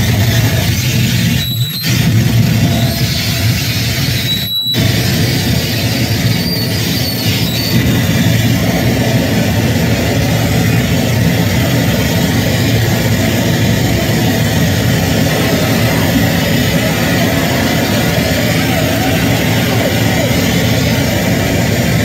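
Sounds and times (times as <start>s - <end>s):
harsh noise music over pa: 0.0s - 22.0s
high squeals: 0.0s - 22.0s.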